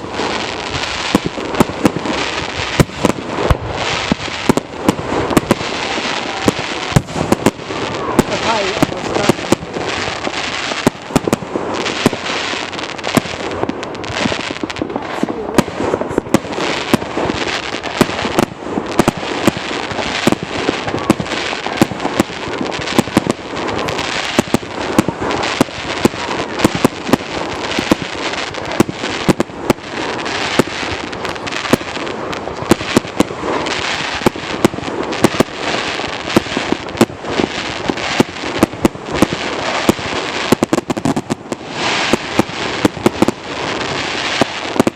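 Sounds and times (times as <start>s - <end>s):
fireworks bangs and pops: 0.0s - 44.9s
fireworks crackling hiss: 0.0s - 44.9s.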